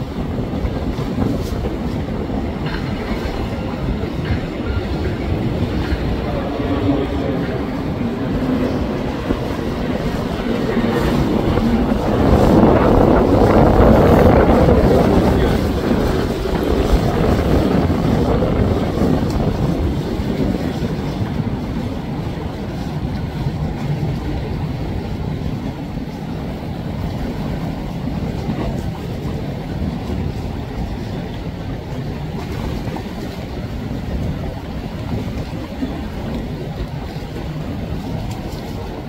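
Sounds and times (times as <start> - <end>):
hull wash rushing: 0.0 - 39.0
motorboat engine: 0.0 - 39.0
wind buffeting microphone: 0.0 - 39.0.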